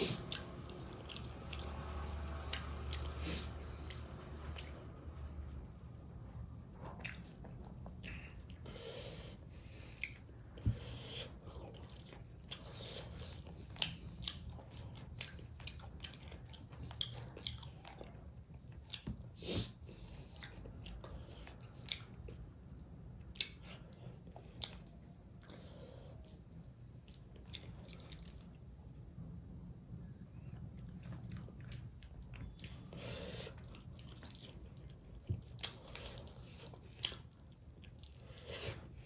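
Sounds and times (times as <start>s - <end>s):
chewing and crunching food: 0.0s - 29.0s, 29.8s - 39.0s.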